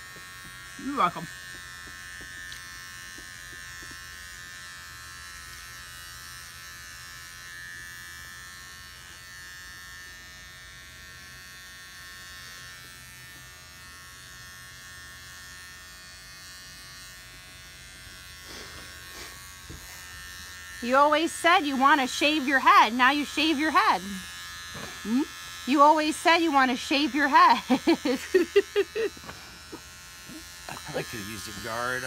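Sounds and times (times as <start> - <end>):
electric trimmer buzzing: 0.0 - 32.0.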